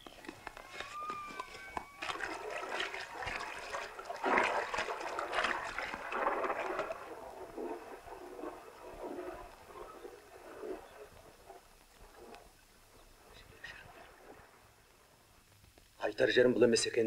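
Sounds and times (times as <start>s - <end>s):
horse wading through water: 0.0s - 15.5s.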